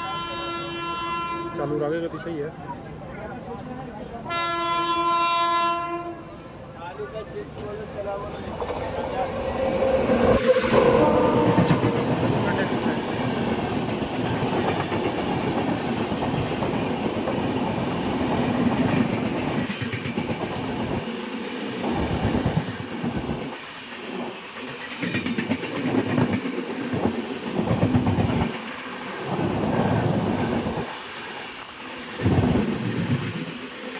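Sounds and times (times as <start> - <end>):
train coaches rumbling: 0.0 - 33.9.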